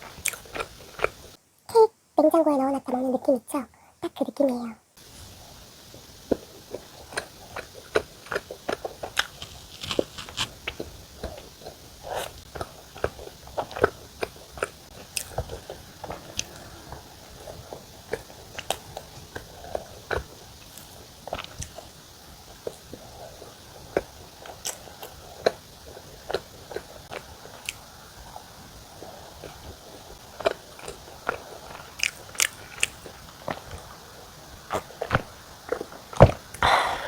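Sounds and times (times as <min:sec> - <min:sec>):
biting and chewing bread: 0:00.0 - 0:01.4, 0:05.0 - 0:37.0.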